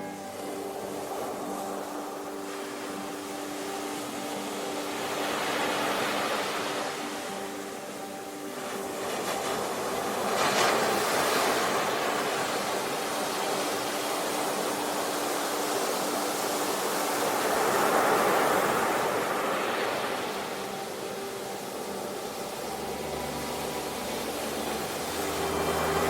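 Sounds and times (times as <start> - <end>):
faint steady hum: 0.0 - 26.0
ocean waves washing onto shore: 0.0 - 26.0.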